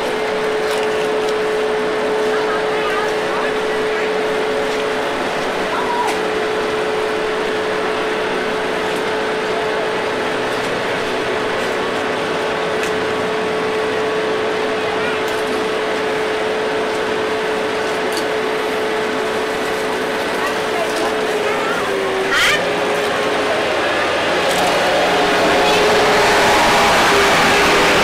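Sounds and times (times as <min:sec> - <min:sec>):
machine drone humming: 0:00.0 - 0:28.0.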